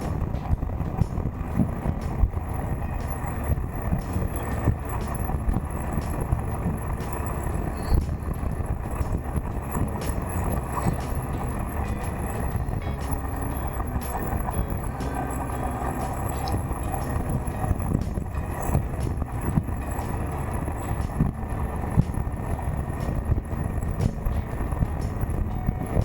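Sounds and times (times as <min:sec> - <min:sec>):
motorcycle engine: 0:00.0 - 0:26.0
road noise: 0:00.0 - 0:26.0
wind rushing over microphone: 0:00.0 - 0:26.0.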